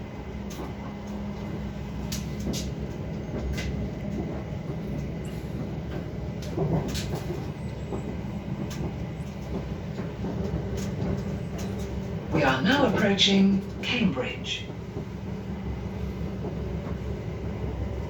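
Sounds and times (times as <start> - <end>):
train running rumble: 0.0 - 18.0
sharp clicks and rattles: 0.5 - 17.9.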